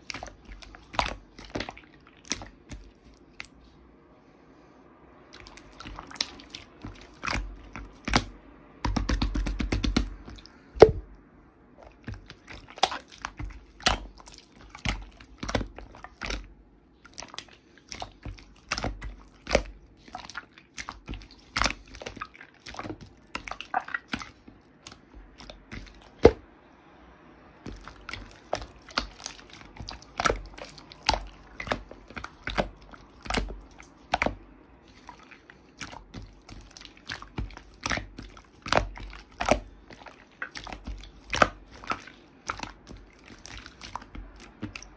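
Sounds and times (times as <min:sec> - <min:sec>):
hands squishing slime: 0:00.0 - 0:03.7, 0:05.3 - 0:11.1, 0:11.8 - 0:26.4, 0:27.6 - 0:44.9.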